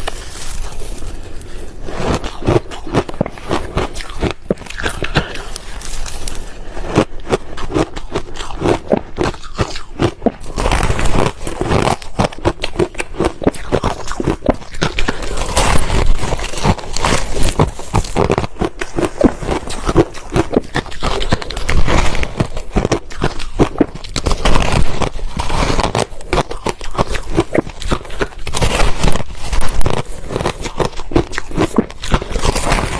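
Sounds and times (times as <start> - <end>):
ice being chewed: 0.0 - 32.9.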